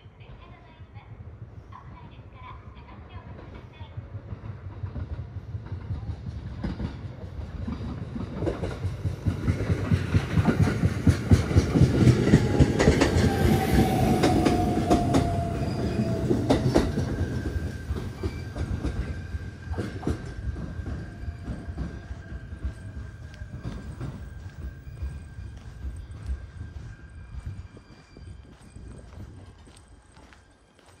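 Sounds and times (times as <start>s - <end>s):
train wheels clacking: 3.3s - 31.0s.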